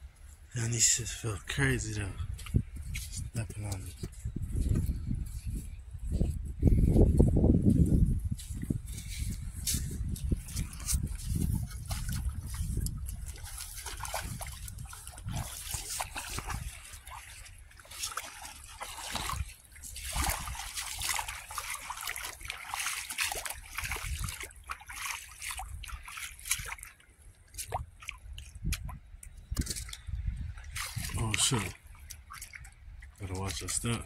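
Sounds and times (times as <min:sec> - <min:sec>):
footsteps wading through water: 0:00.0 - 0:34.0.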